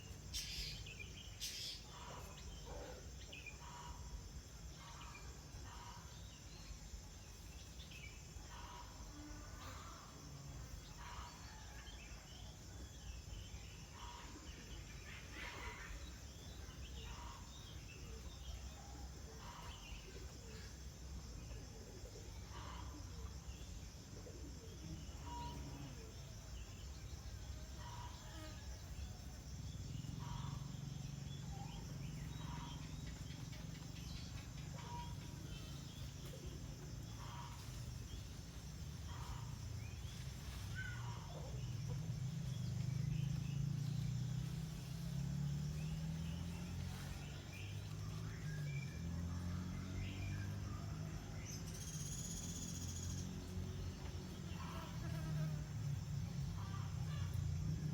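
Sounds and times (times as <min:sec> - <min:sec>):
insect buzz: 0:00.0 - 0:57.9.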